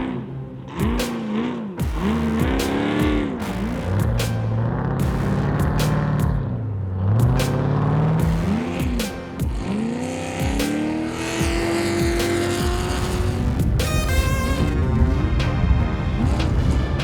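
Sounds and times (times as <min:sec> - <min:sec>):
background music: 0:00.0 - 0:17.0
engine revving: 0:00.0 - 0:17.0.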